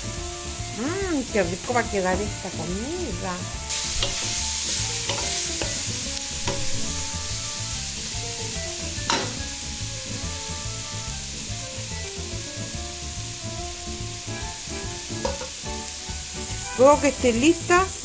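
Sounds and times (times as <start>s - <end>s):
quiet music: 0.0s - 18.0s
vegetables sizzling in oil: 0.0s - 18.0s.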